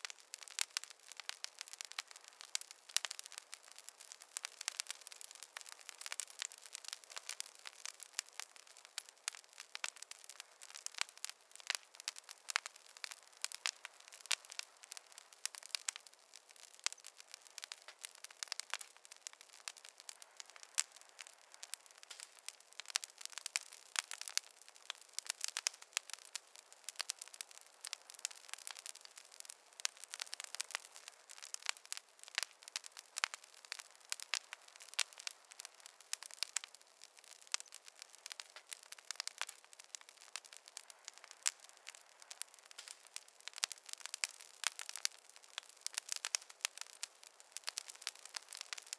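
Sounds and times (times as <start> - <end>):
faint hiss: 0.0 - 48.9
wood fire crackling: 0.0 - 48.9.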